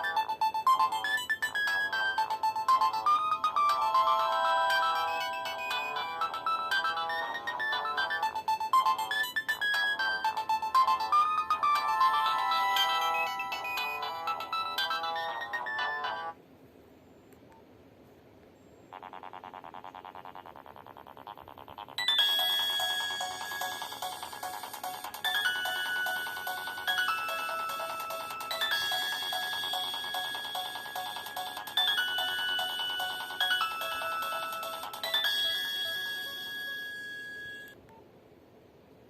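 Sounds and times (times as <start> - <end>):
fast repeated ringtone notes: 0.0 - 16.4, 18.9 - 37.8
phone ringtone melody: 0.0 - 16.4, 21.8 - 37.8.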